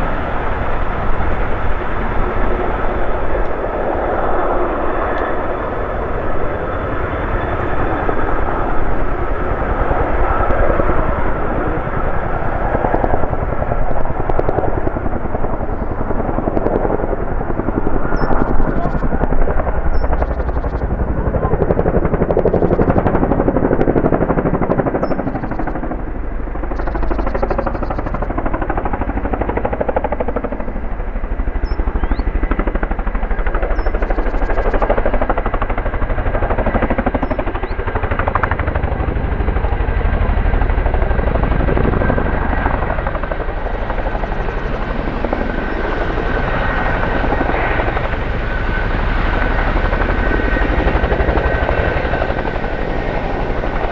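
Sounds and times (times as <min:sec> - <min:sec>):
helicopter high whine: 0:00.0 - 0:53.9
helicopter rotor blades chopping: 0:00.0 - 0:53.9.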